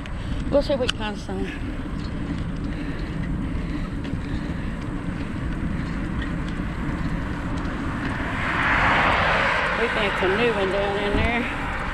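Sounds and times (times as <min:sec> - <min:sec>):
bicycle rolling on trail: 0:00.0 - 0:11.9.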